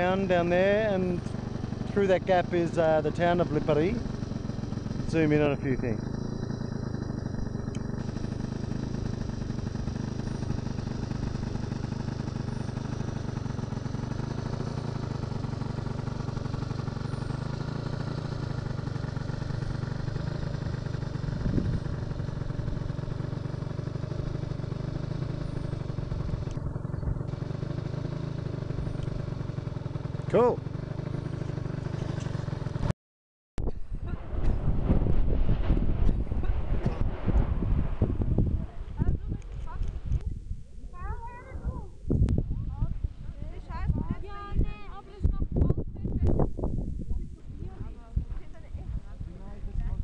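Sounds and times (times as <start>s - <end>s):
moped engine idling: 0.0s - 32.9s, 40.9s - 50.0s.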